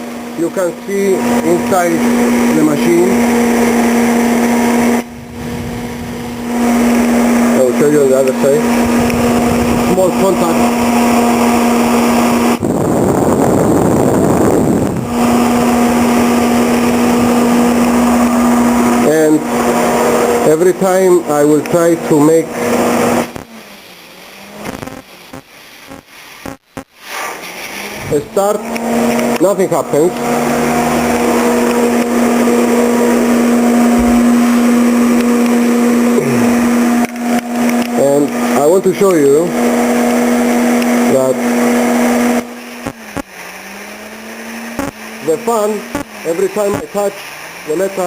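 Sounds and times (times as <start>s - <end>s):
welder humming: 0.0s - 48.0s.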